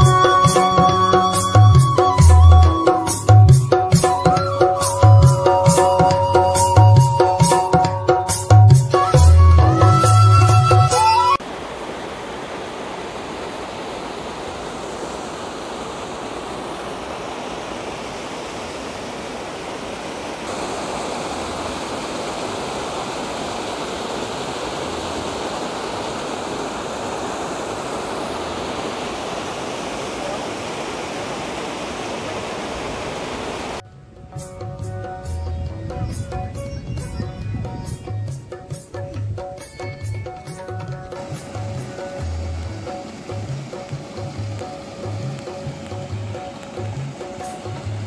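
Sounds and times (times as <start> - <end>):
waterfall rushing: 0.0 - 33.8, 40.4 - 48.0.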